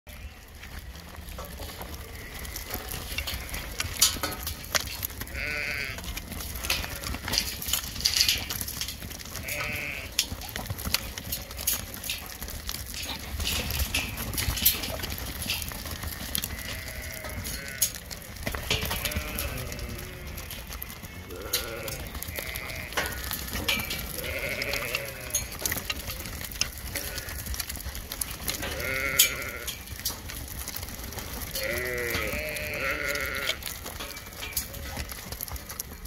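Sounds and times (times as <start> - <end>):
sheep bleating: 0.1 - 8.6, 9.2 - 30.4, 31.3 - 34.7
sheep shuffling on dirt: 0.1 - 36.0.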